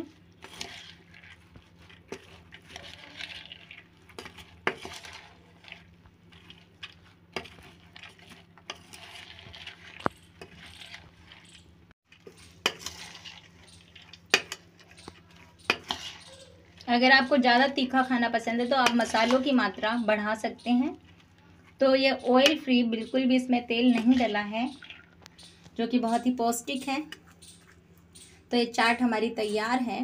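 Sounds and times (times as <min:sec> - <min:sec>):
spoon scraping in pot: 0:00.4 - 0:28.4.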